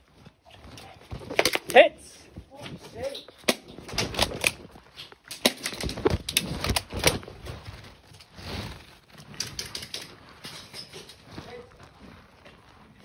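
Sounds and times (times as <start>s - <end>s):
soft rustling and scuffing: 0.0s - 5.3s, 5.9s - 13.0s.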